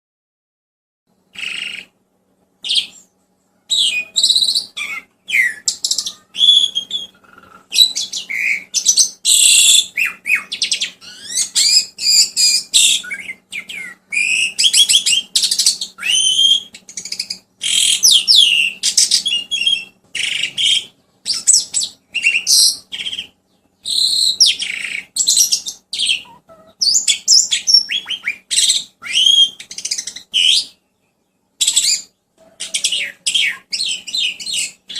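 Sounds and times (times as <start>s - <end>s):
faint low hum: 1.1s - 34.9s
songbird chirping and trilling: 1.1s - 34.9s.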